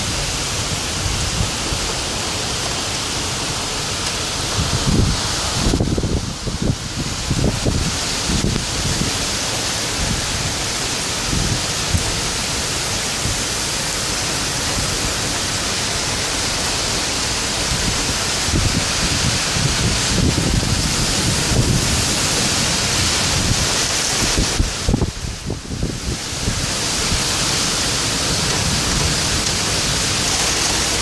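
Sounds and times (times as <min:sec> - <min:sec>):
torrential rain pouring: 0:00.0 - 0:31.0
wind gusting: 0:00.0 - 0:31.0.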